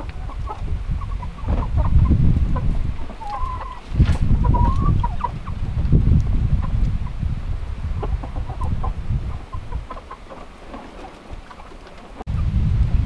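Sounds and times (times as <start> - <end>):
chickens clucking: 0.0 - 12.3.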